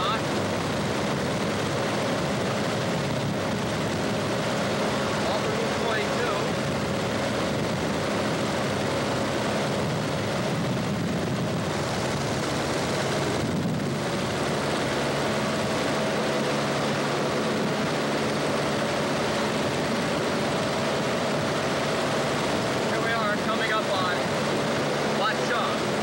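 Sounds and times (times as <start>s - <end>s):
airplane engine and propeller drone: 0.0s - 26.0s
steady hum: 0.0s - 26.0s.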